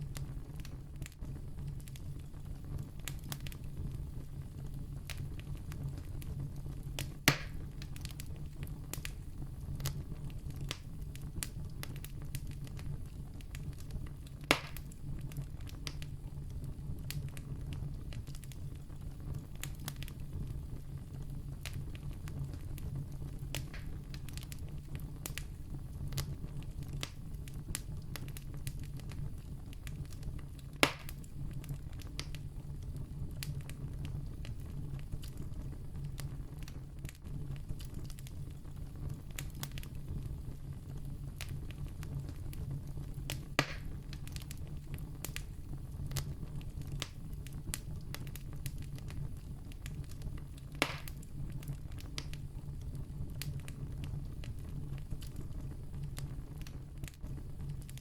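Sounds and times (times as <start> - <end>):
campfire crackling: 0.0 - 58.0
loud fire pops: 0.0 - 58.0.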